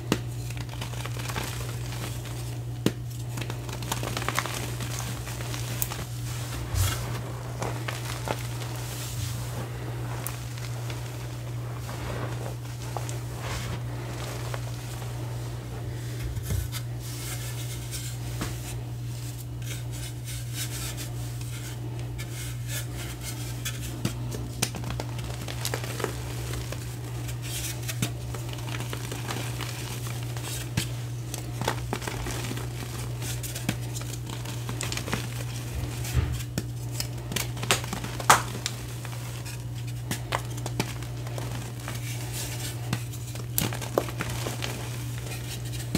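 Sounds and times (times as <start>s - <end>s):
chalk powder crunching and crackling: 0.0s - 45.9s
steady low hum: 0.0s - 45.9s.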